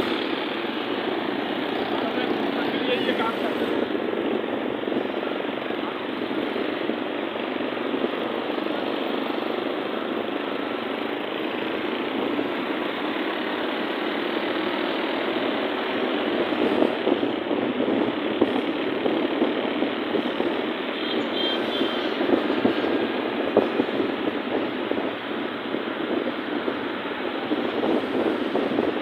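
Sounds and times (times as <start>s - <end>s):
engine and road noise in traffic: 0.0s - 29.0s.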